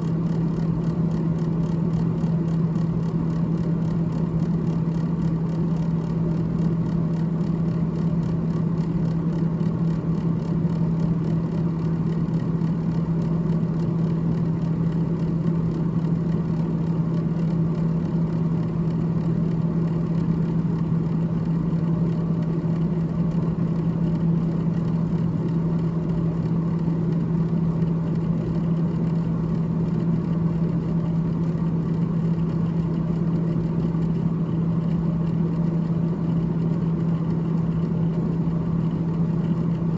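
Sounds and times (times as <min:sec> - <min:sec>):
refrigerator fan humming: 0:00.0 - 0:39.9.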